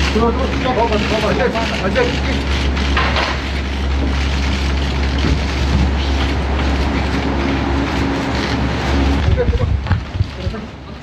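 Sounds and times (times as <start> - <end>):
noisy rumble: 0.0 - 11.0.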